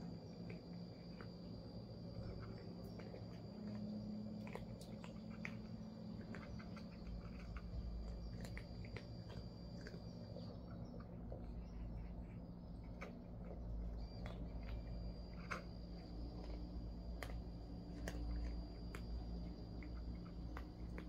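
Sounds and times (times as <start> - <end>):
cats chewing: 0.0 - 21.0.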